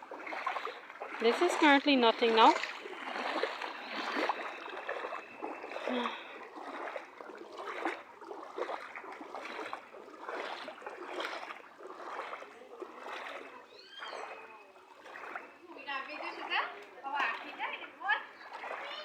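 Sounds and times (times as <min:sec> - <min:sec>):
floodwater splashing and trickling: 0:00.0 - 0:19.0.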